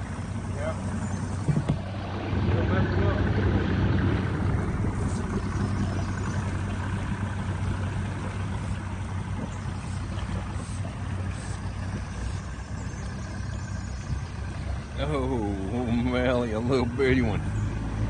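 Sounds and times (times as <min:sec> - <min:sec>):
motorboat engine humming: 0:00.0 - 0:18.0.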